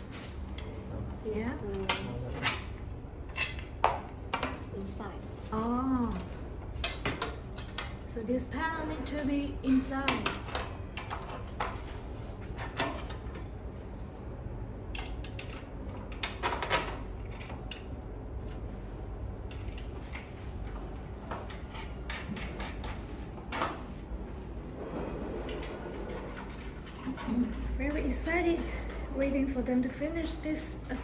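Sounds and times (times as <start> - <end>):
steady low background hum: 0.0 - 31.0.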